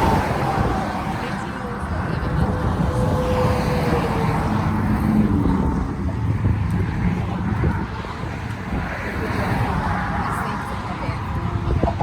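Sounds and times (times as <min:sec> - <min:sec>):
traffic rumble: 0:00.0 - 0:12.0
wind buffeting microphone: 0:00.0 - 0:12.0.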